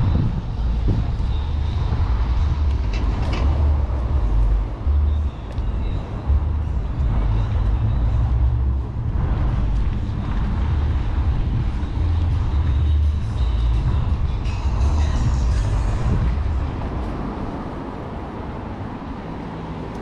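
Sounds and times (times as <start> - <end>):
heavy low rumble: 0.0 - 20.0
passing traffic: 0.0 - 20.0.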